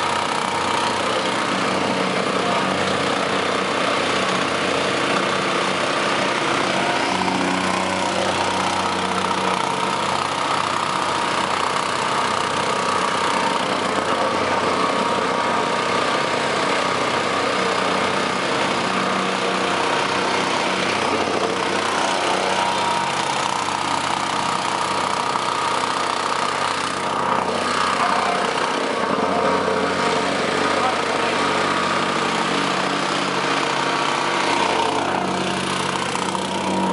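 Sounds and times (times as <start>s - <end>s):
paver engine: 0.0s - 36.9s
plate compactor running: 0.0s - 36.9s.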